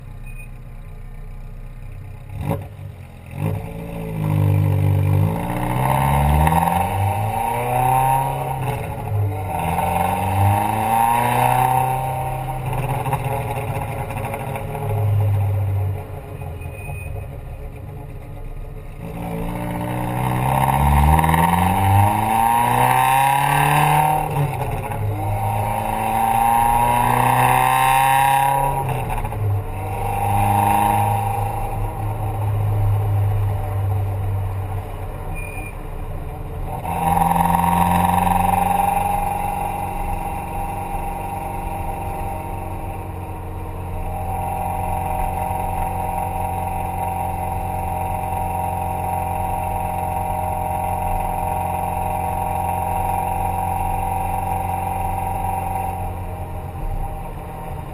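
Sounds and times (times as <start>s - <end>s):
vehicle engine revving: 2.2s - 57.9s.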